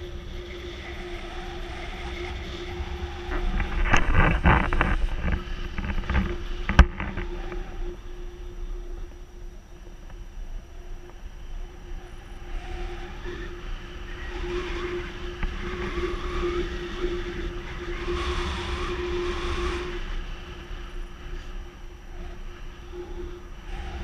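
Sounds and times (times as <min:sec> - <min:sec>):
steady low tone: 0:00.0 - 0:24.0
wind rushing over microphone: 0:00.0 - 0:24.0.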